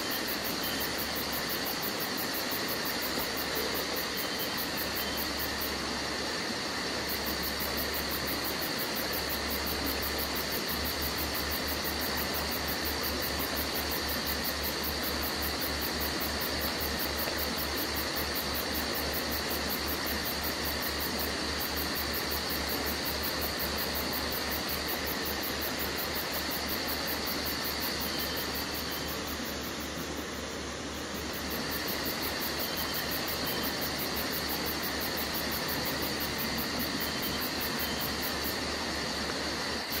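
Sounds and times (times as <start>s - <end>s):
background hiss: 0.0s - 40.0s.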